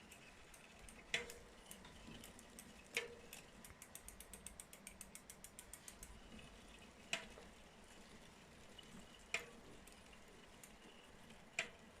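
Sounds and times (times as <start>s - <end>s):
bicycle freehub ratchet clicking: 0.0s - 7.4s, 9.2s - 12.0s.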